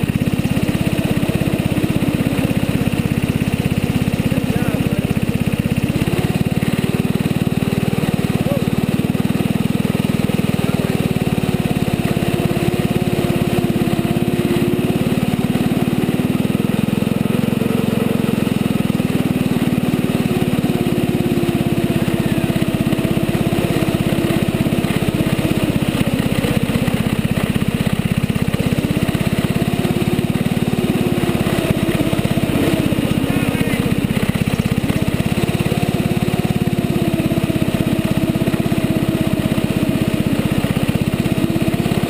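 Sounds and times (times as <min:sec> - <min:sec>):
snowmobile engine running: 0:00.0 - 0:42.0.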